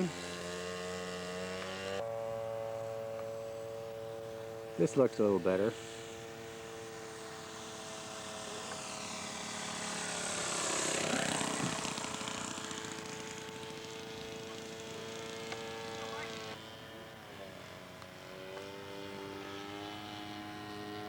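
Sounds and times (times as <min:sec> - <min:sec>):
model airplane engine passing: 0:00.0 - 0:21.0
steady droning tone: 0:00.0 - 0:21.0.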